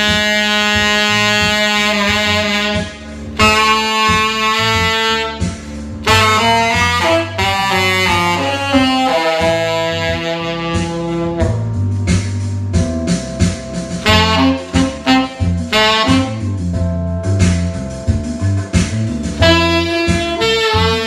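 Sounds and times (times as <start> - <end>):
tenor saxophone playing jazz melody: 0.0 - 12.2, 13.4 - 17.8, 19.2 - 21.0
backing track with bass line: 0.0 - 21.0.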